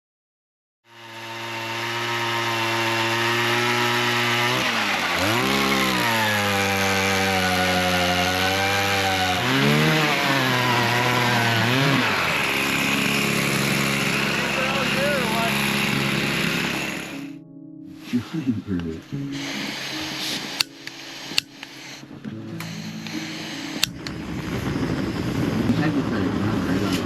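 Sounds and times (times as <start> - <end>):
small gasoline engine running: 0.9 - 17.4, 19.4 - 22.0, 22.6 - 27.0.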